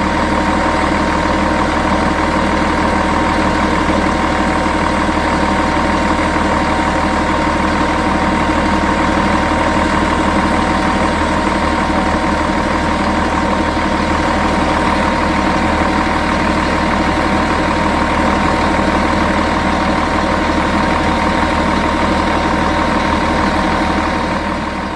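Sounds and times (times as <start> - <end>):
diesel bus engine idling: 0.0 - 24.9.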